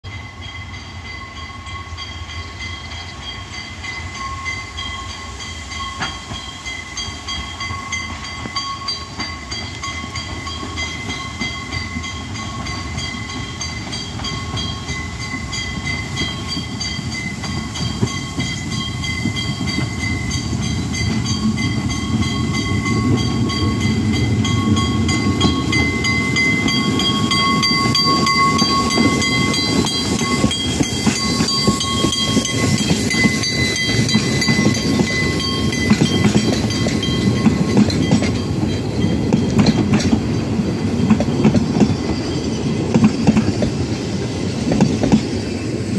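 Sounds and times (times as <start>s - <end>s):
carriages rolling on rails: 0.0s - 45.9s
steam locomotive working: 0.1s - 45.9s.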